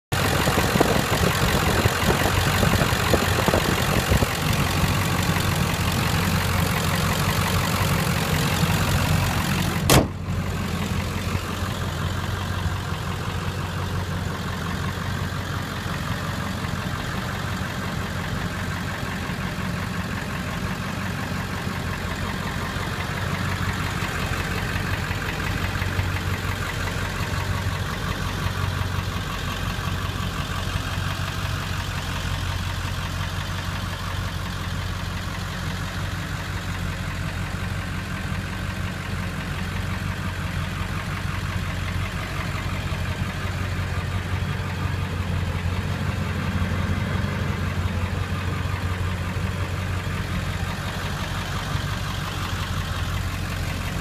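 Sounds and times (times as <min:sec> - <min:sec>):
diesel engine idling: 0:00.1 - 0:54.0.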